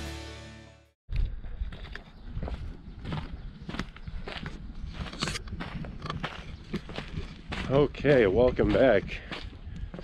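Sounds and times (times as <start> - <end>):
footsteps on stone: 1.1 - 10.0.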